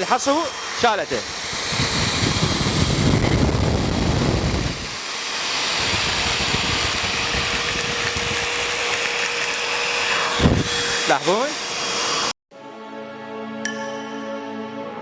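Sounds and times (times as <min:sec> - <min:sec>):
vacuum cleaner running: 0:00.0 - 0:12.4.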